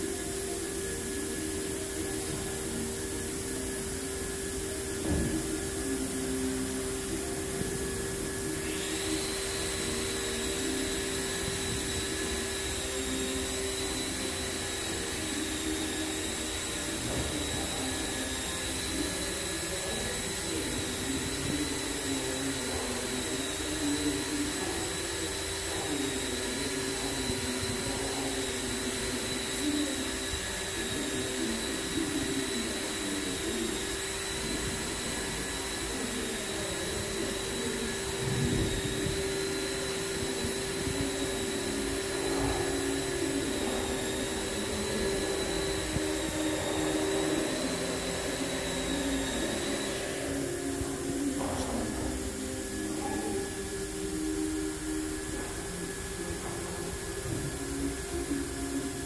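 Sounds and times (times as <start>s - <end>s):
machinery hum: 0.0s - 59.0s
thin high whine: 0.0s - 59.0s.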